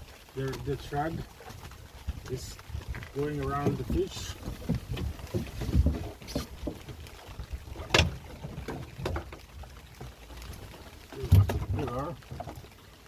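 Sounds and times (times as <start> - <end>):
knocks and rustles in a boat: 0.0 - 13.0.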